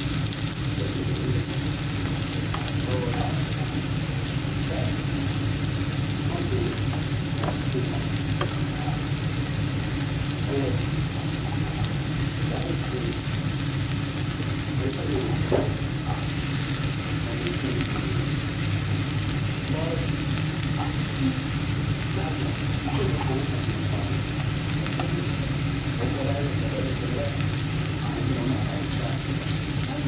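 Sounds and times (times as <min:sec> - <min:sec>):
chicken sizzling in oil: 0:00.0 - 0:30.0
steady low hum: 0:00.0 - 0:30.0.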